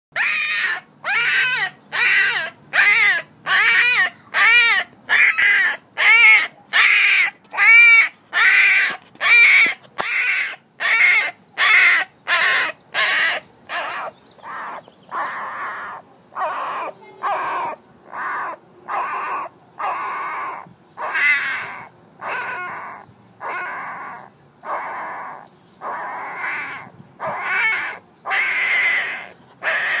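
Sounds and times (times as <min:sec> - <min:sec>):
puppy crying: 0:00.2 - 0:30.0.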